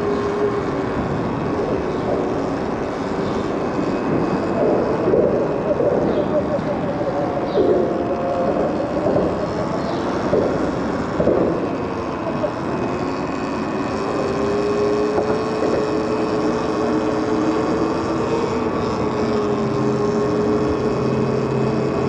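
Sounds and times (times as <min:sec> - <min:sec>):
electric motor whining: 0:00.0 - 0:22.0
wind and road noise: 0:00.0 - 0:22.0.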